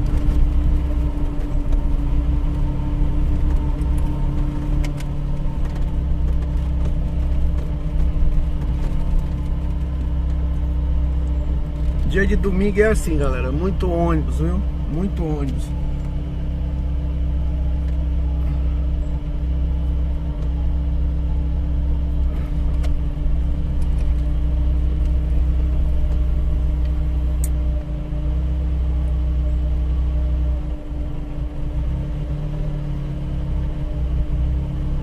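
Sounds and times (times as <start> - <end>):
vehicle engines in slow traffic: 0.0 - 35.0.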